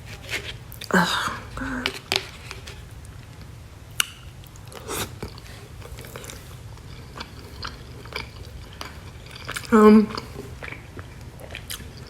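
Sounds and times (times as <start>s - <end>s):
person chewing dumplings: 0.0s - 12.0s.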